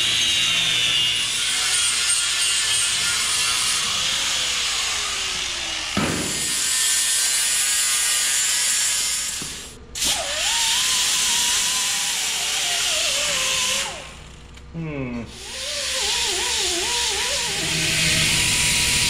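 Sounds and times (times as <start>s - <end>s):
angle grinder grinding metal: 0.0s - 14.4s, 15.3s - 19.0s.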